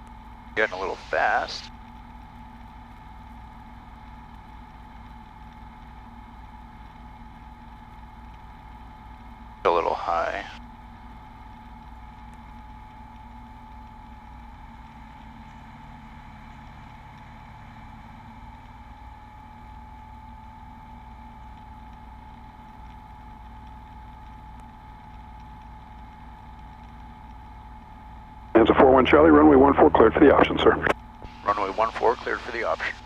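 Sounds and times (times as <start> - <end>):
propeller plane engine droning: 0.0 - 33.0
thin constant tone: 0.0 - 33.0.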